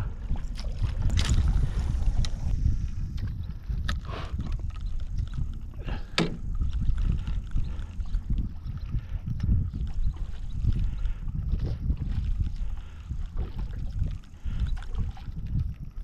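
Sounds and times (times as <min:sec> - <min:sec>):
water around a boat: 0:00.0 - 0:16.0
wind: 0:00.0 - 0:16.0.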